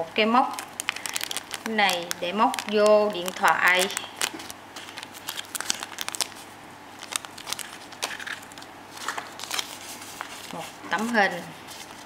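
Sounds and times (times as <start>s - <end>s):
plastic packet crinkling: 0.4s - 12.0s.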